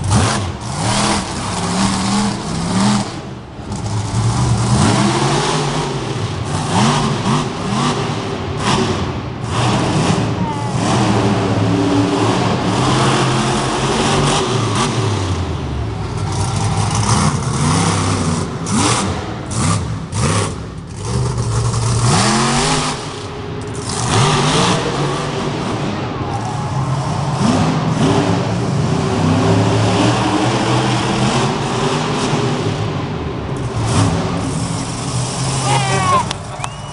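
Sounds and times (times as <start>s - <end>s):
monster truck engine revving: 0.0s - 36.9s.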